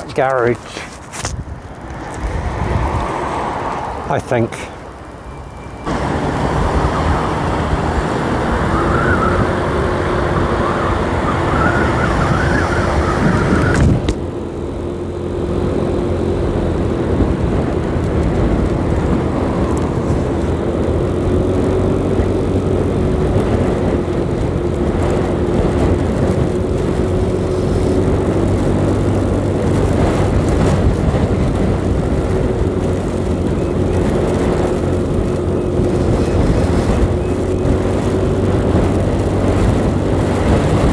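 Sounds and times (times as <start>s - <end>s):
wind rush on microphone: 0.0s - 4.2s, 5.8s - 14.7s, 15.5s - 40.9s
motorcycle engine droning: 0.0s - 40.9s.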